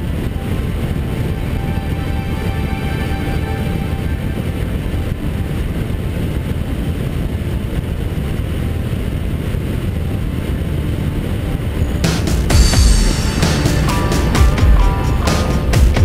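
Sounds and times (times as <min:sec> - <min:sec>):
road noise: 0:00.0 - 0:16.0
wind noise: 0:00.0 - 0:16.0.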